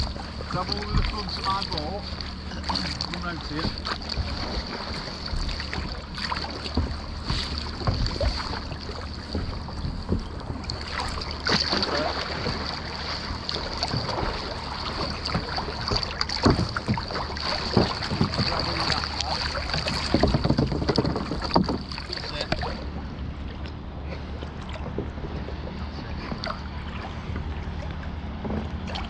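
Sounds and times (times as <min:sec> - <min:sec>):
water lapping against a hull: 0:00.0 - 0:29.0.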